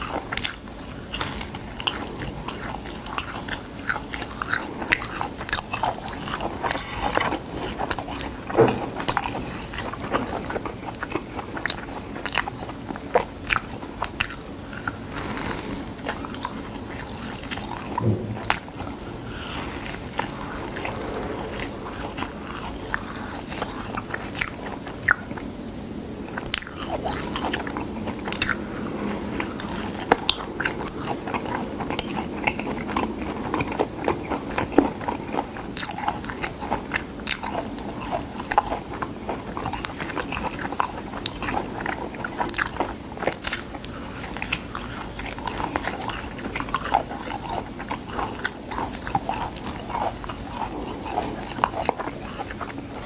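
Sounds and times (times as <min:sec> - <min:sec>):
dried seaweed being chewed: 0:00.0 - 0:53.0.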